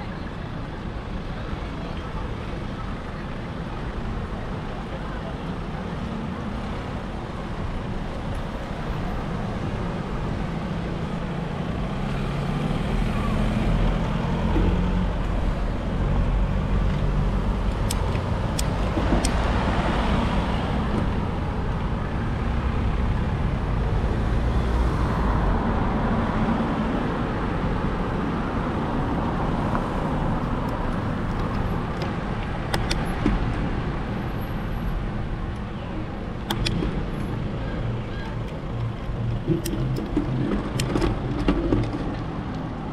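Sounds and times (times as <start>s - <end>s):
motor vehicles passing: 6.6s - 42.9s.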